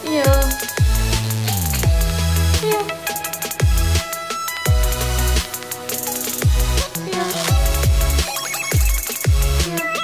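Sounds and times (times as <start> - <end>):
high percussion: 0.0 - 10.0.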